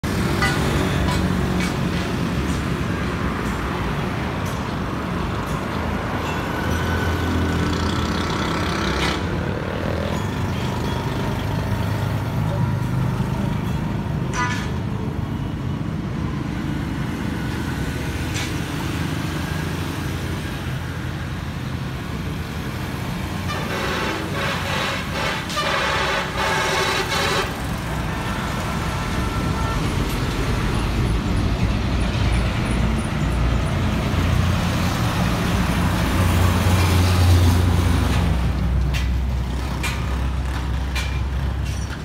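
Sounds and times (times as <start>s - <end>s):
vehicle engine noise: 0.0s - 42.0s.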